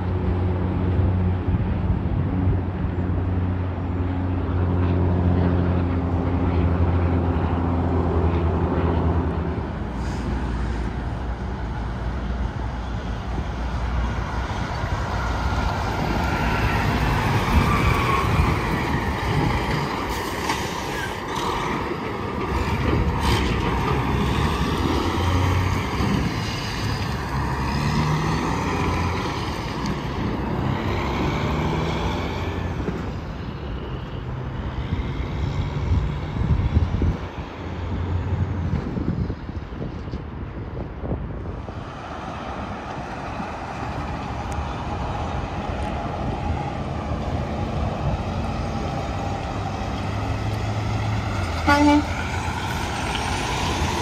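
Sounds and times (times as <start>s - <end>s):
trucks passing on highway: 0.0s - 54.0s.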